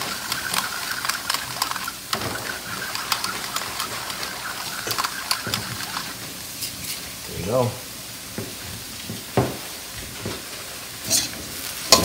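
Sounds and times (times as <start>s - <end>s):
meat frying in a wok: 0.0s - 12.0s.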